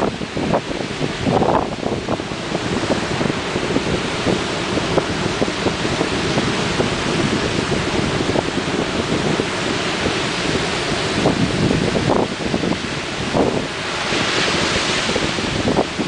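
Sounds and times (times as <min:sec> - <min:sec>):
ocean surf rushing: 0:00.0 - 0:16.0
wind buffeting microphone: 0:00.0 - 0:16.0.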